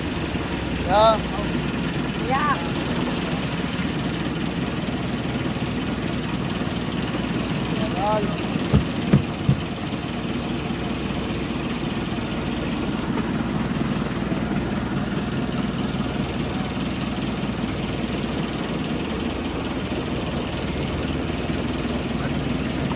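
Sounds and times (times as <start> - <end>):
boat engine running: 0.0 - 22.9.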